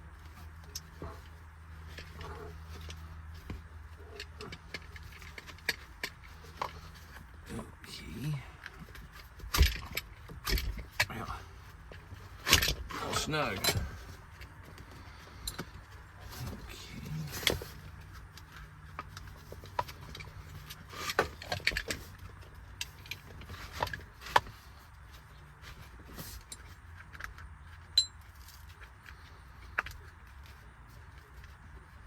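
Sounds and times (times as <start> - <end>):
seat belt buckles clinking: 0.1 - 31.8.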